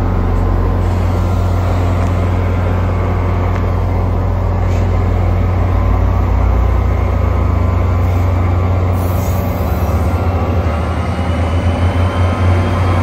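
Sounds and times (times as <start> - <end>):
locomotive diesel engine drone: 0.0 - 13.0.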